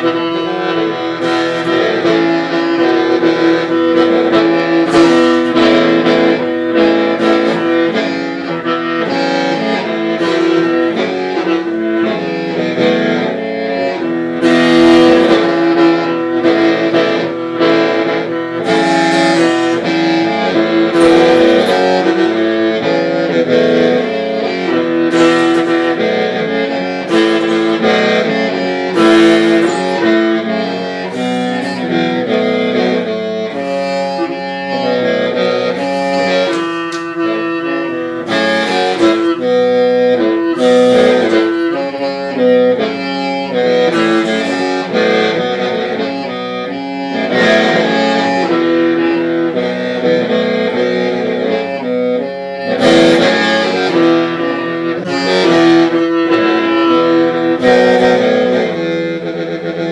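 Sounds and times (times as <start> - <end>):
bamboo mouth organ melody: 0.0 - 59.3.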